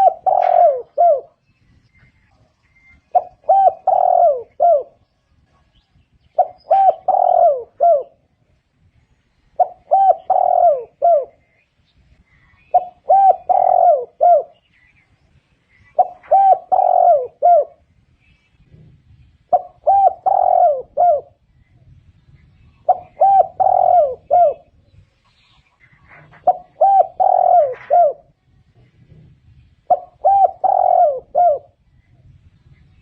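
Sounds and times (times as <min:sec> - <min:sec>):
dove cooing: 0:00.0 - 0:01.4, 0:02.8 - 0:08.3, 0:09.6 - 0:11.6, 0:12.3 - 0:14.7, 0:15.7 - 0:17.9, 0:18.6 - 0:24.8, 0:25.6 - 0:32.3.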